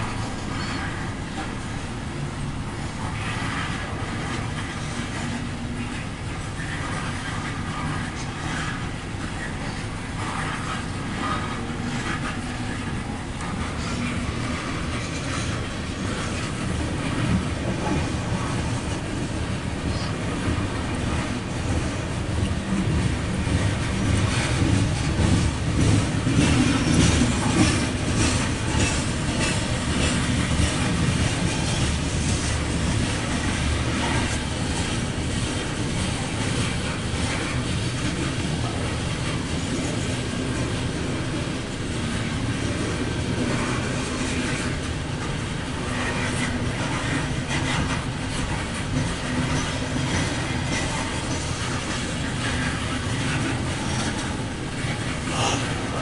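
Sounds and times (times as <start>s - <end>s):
train wheels rumbling on rails: 0.0s - 56.0s
wheels clacking over rail joints: 0.0s - 56.0s.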